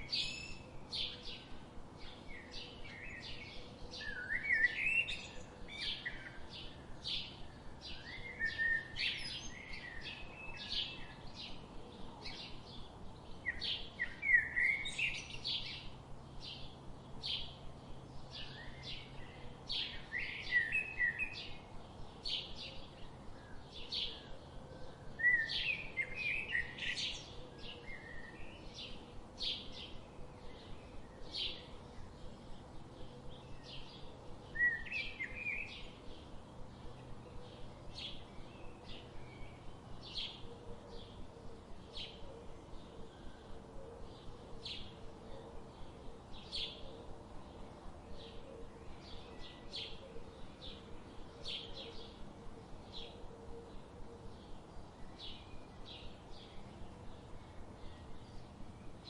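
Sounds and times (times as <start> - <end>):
songbirds chirping: 0.0 - 59.0
warbled bird song: 0.0 - 59.0.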